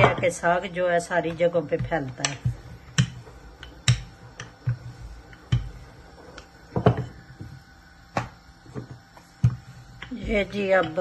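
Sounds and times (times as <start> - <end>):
rolling pin knocking on board: 1.2 - 5.9, 6.7 - 11.0.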